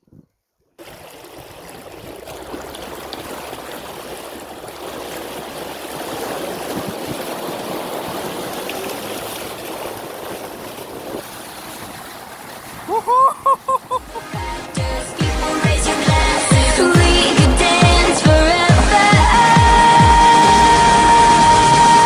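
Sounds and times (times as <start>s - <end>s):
rushing water: 0.8s - 22.0s.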